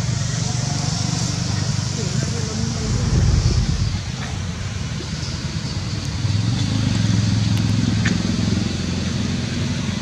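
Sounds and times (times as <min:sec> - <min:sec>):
low engine drone: 0:00.0 - 0:10.0.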